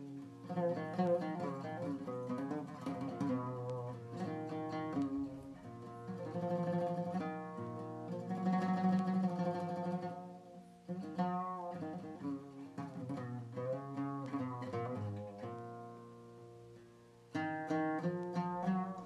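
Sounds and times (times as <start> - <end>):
oud plucked with a plectrum: 0.0 - 19.0.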